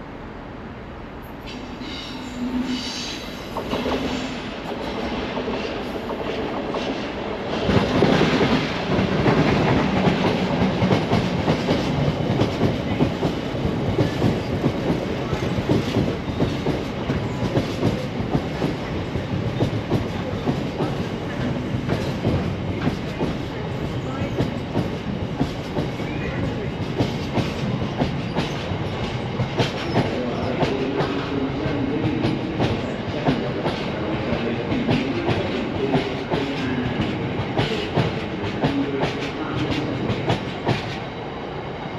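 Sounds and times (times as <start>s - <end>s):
train wheels clattering over rails: 3.4s - 41.1s.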